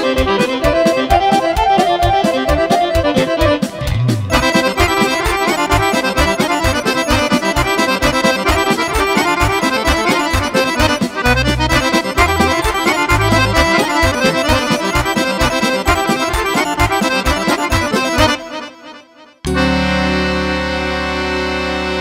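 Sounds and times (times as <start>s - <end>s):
keyboard bass and dance beat: 0.0s - 18.6s
accordions playing dance music: 0.0s - 22.0s.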